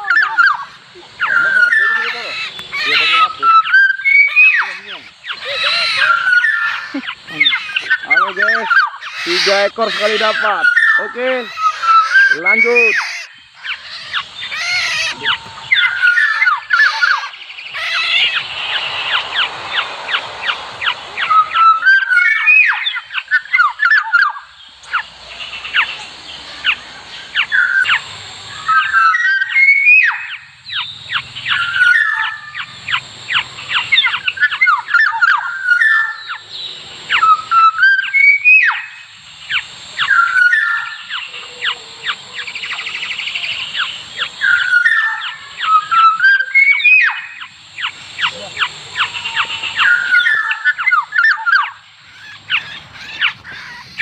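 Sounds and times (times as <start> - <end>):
orioles whistling: 0.0 - 54.0.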